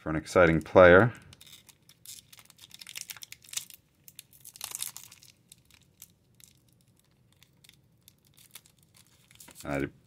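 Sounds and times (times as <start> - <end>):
wrapper crinkling and rustling: 1.2 - 9.9.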